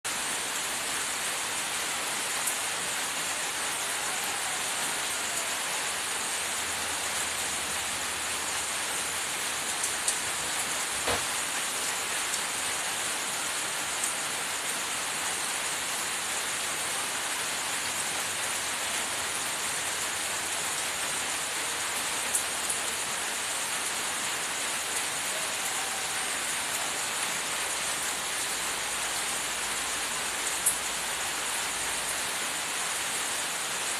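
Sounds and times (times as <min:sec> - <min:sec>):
steady hiss: 0:00.1 - 0:33.9.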